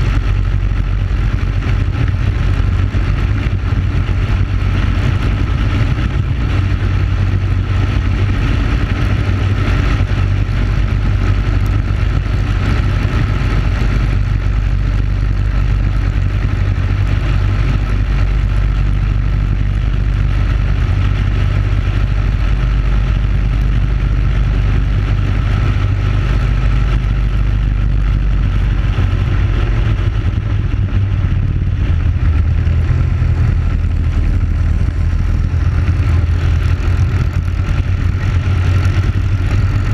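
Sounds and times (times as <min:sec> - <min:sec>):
kart engine at full throttle: 0:00.0 - 0:39.9.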